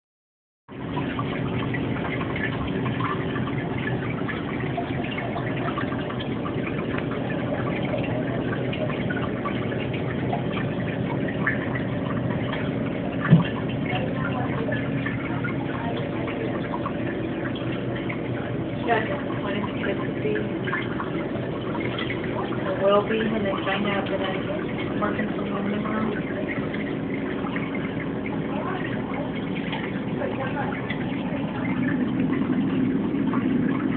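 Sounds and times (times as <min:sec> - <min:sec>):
aquarium pump hum: 0:00.7 - 0:33.9
water trickling and splashing: 0:00.7 - 0:33.9.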